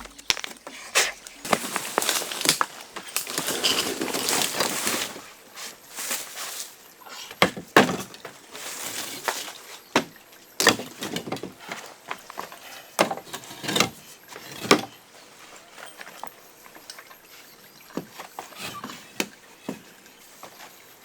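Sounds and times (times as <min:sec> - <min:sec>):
knocks and clatters of building work: 0:00.0 - 0:05.3, 0:07.3 - 0:17.2, 0:17.8 - 0:20.8.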